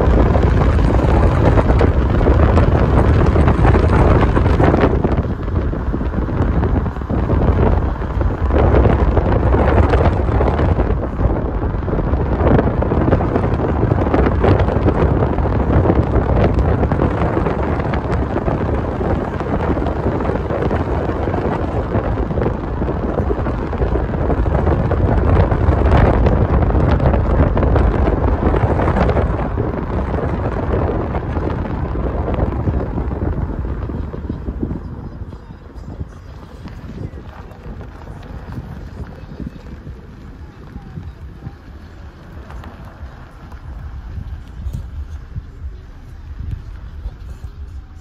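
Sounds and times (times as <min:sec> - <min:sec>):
car road rumble: 0:00.0 - 0:48.0
wind buffeting microphone: 0:00.0 - 0:48.0.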